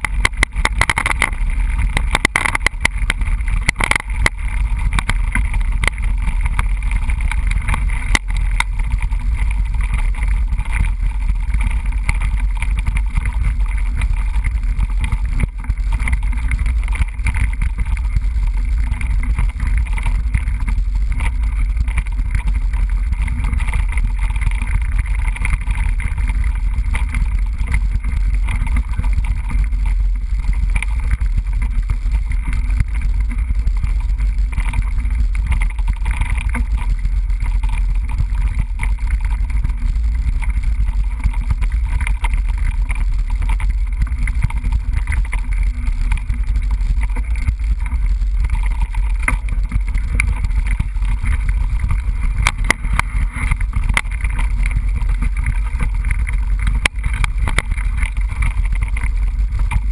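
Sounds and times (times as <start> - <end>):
bike rattles and knocks: 0.0 - 59.9
bike tyres rumbling on trail: 0.0 - 59.9
wind on microphone: 0.0 - 59.9.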